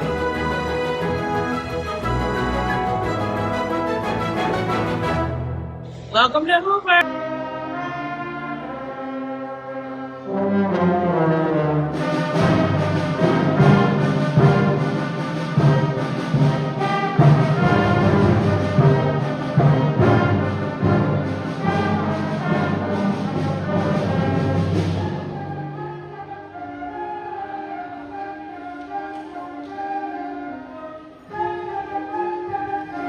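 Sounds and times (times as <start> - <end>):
orchestral music led by brass: 0.0 - 6.3, 7.0 - 33.0.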